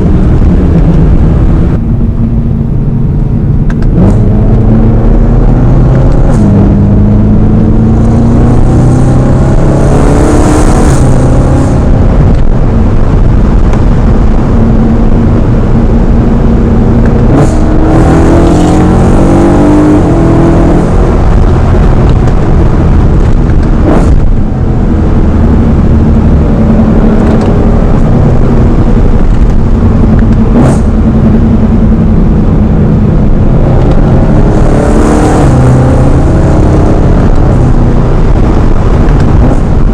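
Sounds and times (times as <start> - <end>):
car engine revving hard: 3.8 - 39.9.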